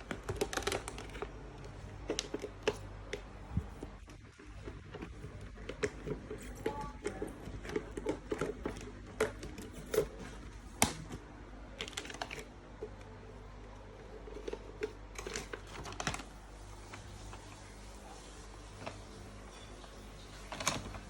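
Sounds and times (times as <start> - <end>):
packaging clicks and rustles: 0.0 - 21.0.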